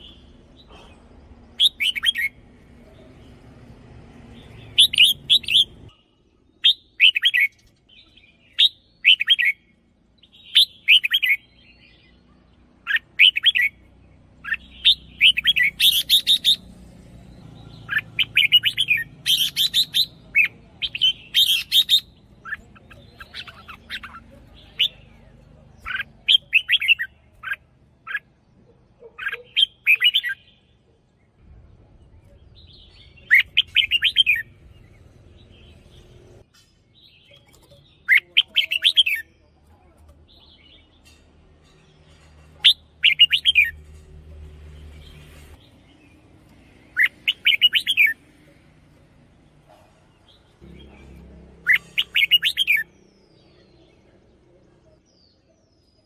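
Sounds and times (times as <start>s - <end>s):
bird singing warbled phrases: 0.0s - 56.0s.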